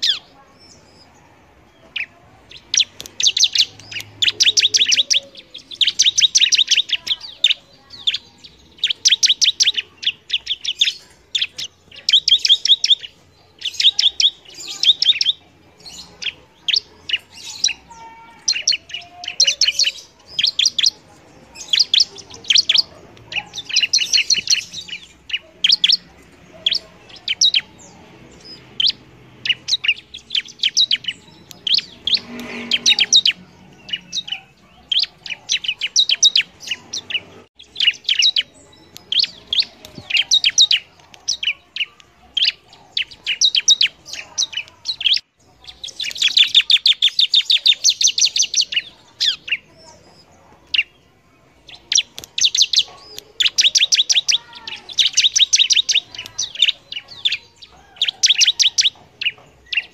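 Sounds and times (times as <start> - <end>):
bird singing rapid chattering phrases: 0.0 - 59.9.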